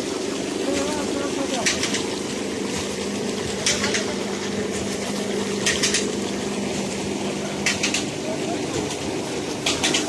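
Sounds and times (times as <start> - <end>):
motor humming: 0.0 - 10.0.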